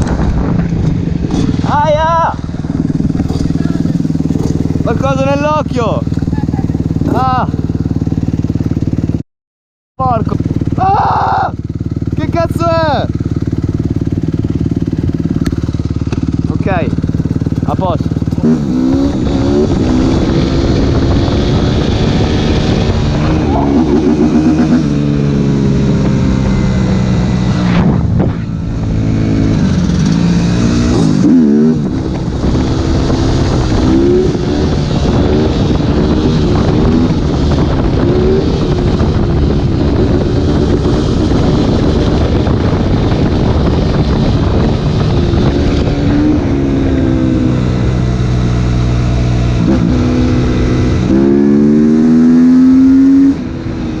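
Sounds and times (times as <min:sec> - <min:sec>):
motorcycle engine revving: 0:00.0 - 0:09.2, 0:10.0 - 0:54.0.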